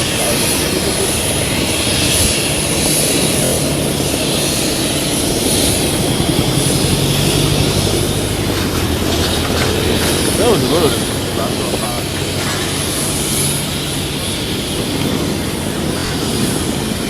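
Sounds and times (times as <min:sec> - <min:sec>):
airliner engines in cabin: 0:00.0 - 0:17.0.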